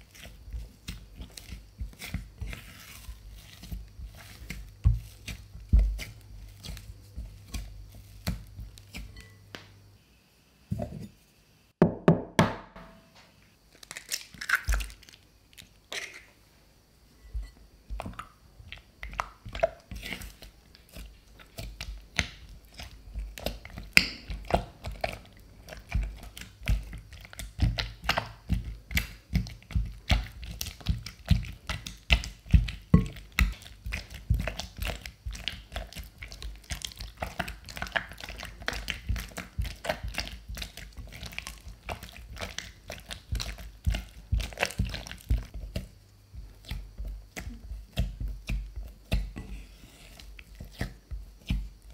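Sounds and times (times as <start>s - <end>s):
spatula mixing wet dough: 0.0s - 9.6s, 17.2s - 51.9s.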